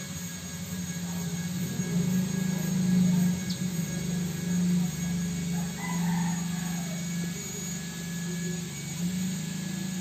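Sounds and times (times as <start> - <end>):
motor humming: 0.0 - 10.0.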